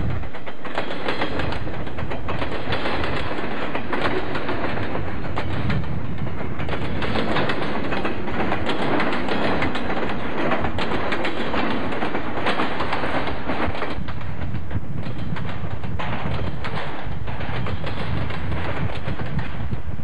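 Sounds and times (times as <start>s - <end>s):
train wheel clicks: 0.0s - 20.0s
train wheels rumbling on rails: 0.0s - 20.0s.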